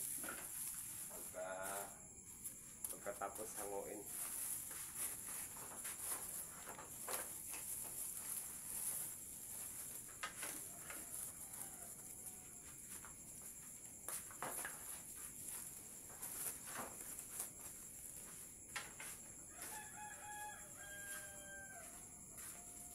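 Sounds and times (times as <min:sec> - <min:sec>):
insects chirring: 0:00.0 - 0:22.9.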